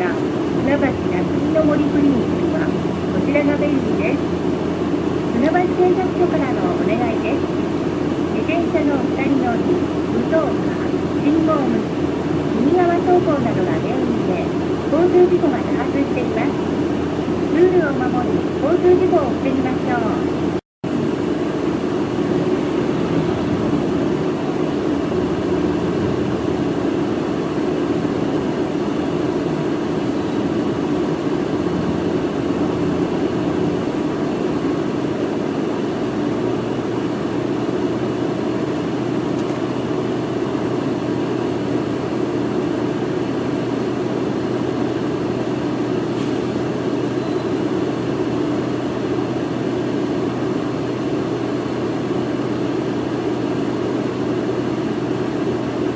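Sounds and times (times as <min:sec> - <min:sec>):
bus diesel engine: 0:00.0 - 0:55.9
road noise: 0:00.0 - 0:55.9
steady low hum: 0:00.0 - 0:55.9.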